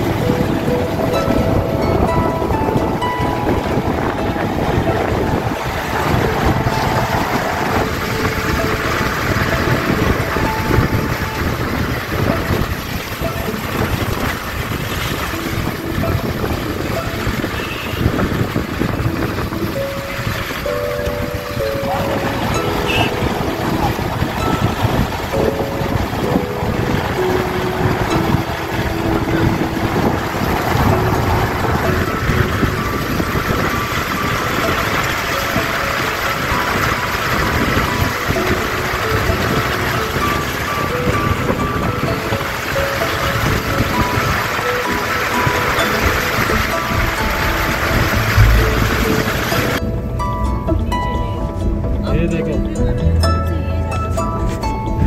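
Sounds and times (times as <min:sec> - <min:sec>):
wind buffeting microphone: 0:00.0 - 0:50.1
road and engine rumble: 0:00.0 - 0:55.0.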